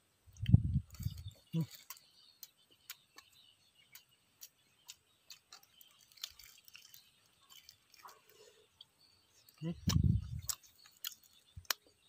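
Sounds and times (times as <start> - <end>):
person chewing quietly: 0.3 - 12.0.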